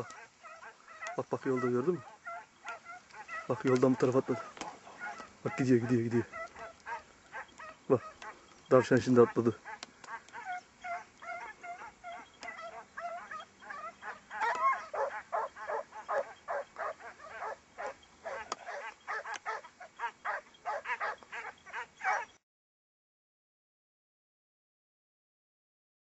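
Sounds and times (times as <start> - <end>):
hounds baying: 0.0 - 22.4.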